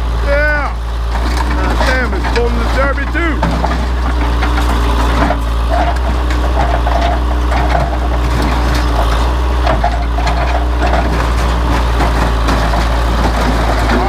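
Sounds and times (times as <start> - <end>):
diesel engine running under load: 0.0 - 14.0
metal creaking and clanking: 1.0 - 14.0.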